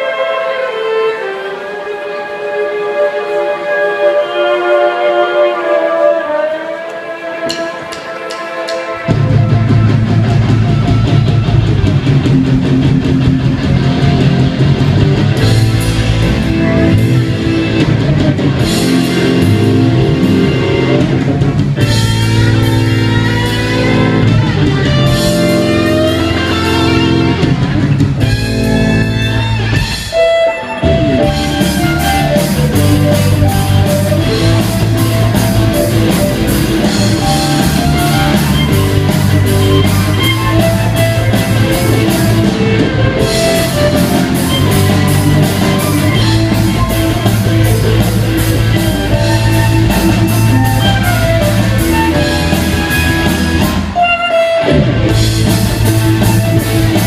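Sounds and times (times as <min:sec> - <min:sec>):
live rock band playing: 0:00.0 - 0:57.0
violin lead: 0:00.0 - 0:57.0
steady drum beat: 0:07.4 - 0:57.0.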